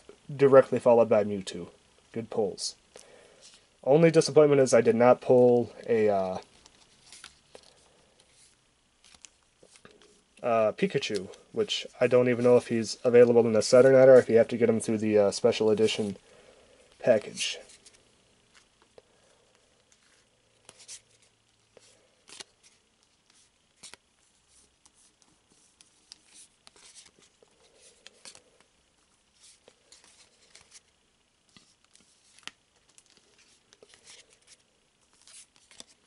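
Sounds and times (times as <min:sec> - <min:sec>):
trading cards being handled: 0:05.0 - 0:16.2, 0:16.8 - 0:36.0.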